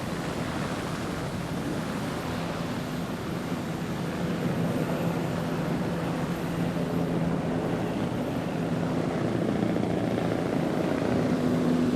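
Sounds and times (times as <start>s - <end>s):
helicopter rotor drone: 0.0s - 11.9s.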